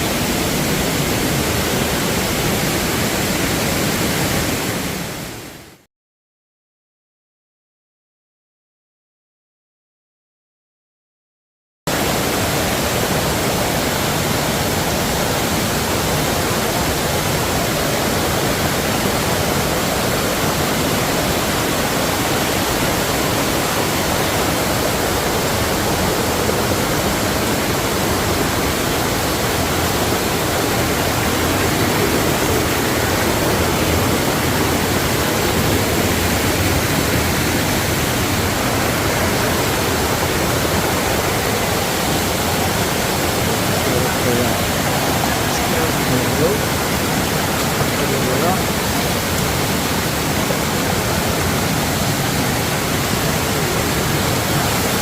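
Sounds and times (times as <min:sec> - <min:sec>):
waterfall rushing: 0:00.0 - 0:05.5, 0:11.9 - 0:55.0.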